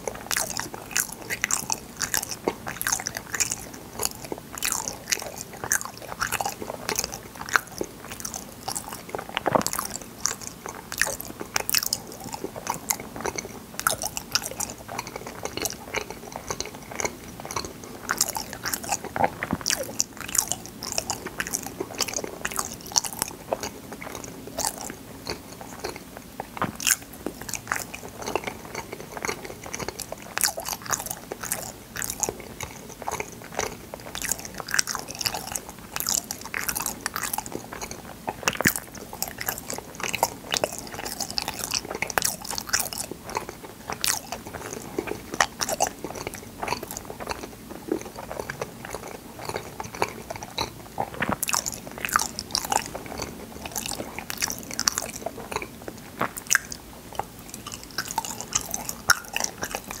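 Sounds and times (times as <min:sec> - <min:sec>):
chewing mouth clicks and smacks: 0:00.0 - 1:00.0.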